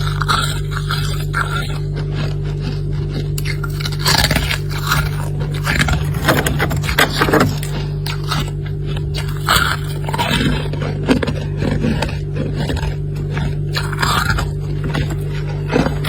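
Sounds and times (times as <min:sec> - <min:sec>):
freezer frost scraping: 0:00.0 - 0:16.0
low hum: 0:00.0 - 0:16.0.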